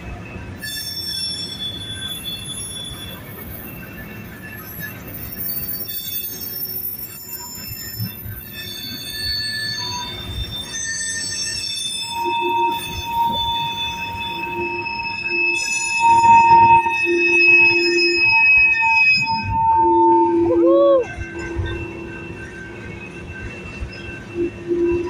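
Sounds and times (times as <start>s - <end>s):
low train rumble: 0.0s - 25.0s
train wheels squealing on rails: 0.0s - 25.0s
steady high tone: 0.2s - 25.0s.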